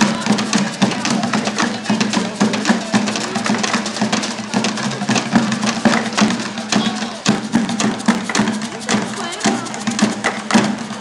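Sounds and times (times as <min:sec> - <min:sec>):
percussion ensemble drumming: 0:00.0 - 0:11.0.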